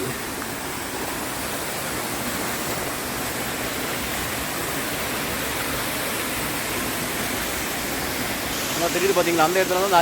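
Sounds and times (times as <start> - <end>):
waterfall rushing over rock: 0.0 - 10.0.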